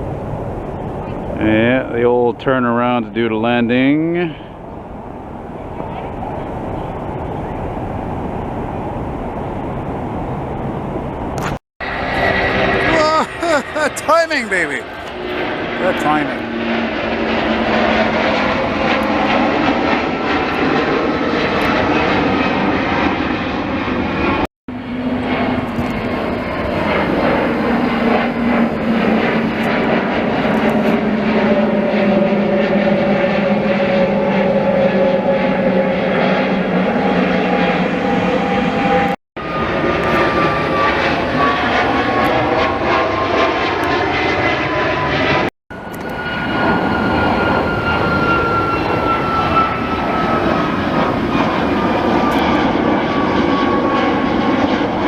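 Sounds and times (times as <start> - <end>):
airliner engines passing: 0.0 - 55.0.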